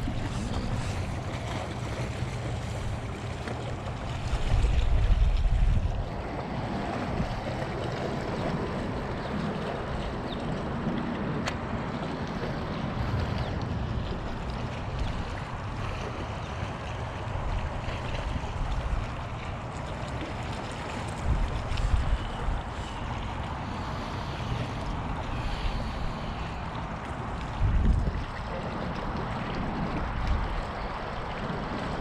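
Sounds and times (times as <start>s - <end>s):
waves washing on shore: 0.0s - 32.0s
wind rumbling on microphone: 0.0s - 32.0s.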